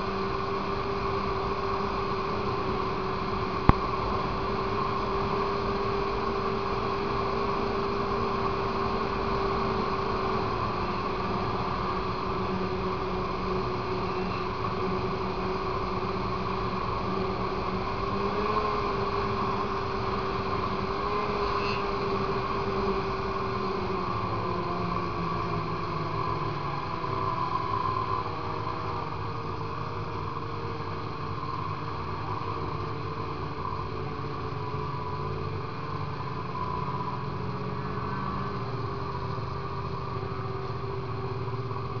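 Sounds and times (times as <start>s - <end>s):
snowmobile engine drone: 0.0s - 42.0s.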